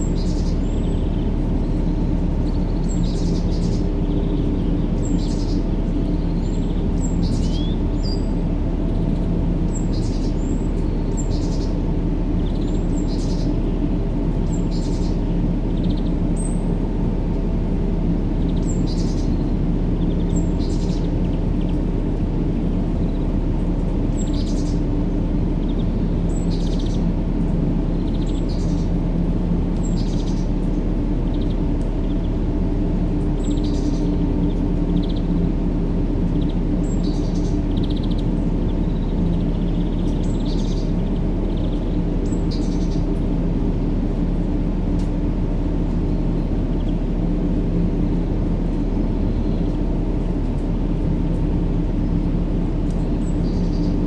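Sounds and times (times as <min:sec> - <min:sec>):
deep white noise: 0:00.0 - 0:54.0.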